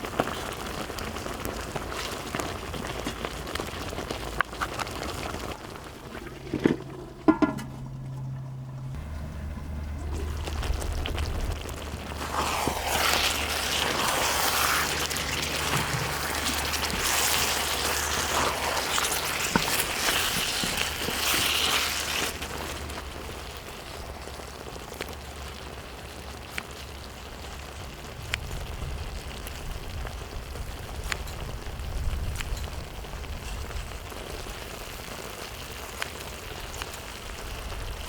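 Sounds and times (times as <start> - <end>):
food sizzling on a griddle: 0.0 - 5.5, 11.0 - 38.0.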